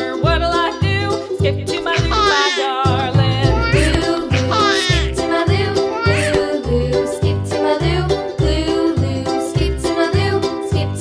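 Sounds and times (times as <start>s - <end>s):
upbeat children's music: 0.0s - 11.0s.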